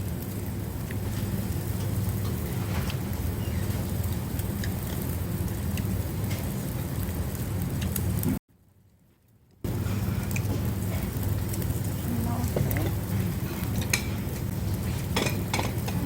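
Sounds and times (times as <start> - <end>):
meat sizzling on a grill: 0.0 - 8.4, 9.6 - 16.0.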